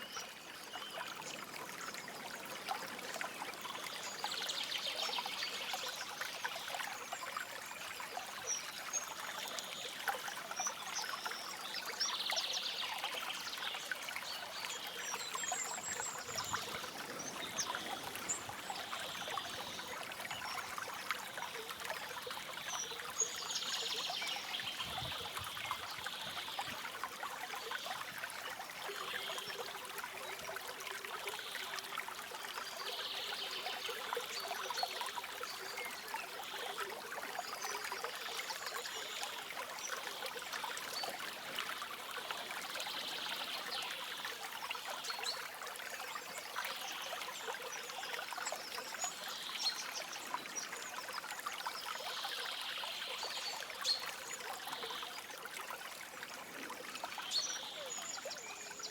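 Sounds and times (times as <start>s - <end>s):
river water babbling: 0.0s - 58.9s.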